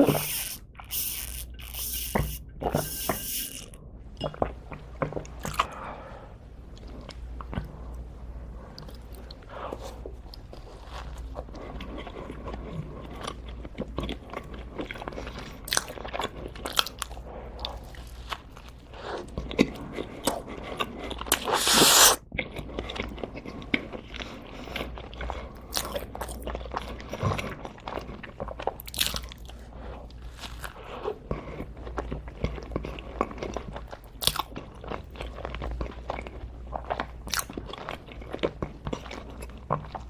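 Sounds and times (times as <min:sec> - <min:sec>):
person chewing crunchy food: 0:00.0 - 0:06.0, 0:08.8 - 0:40.0.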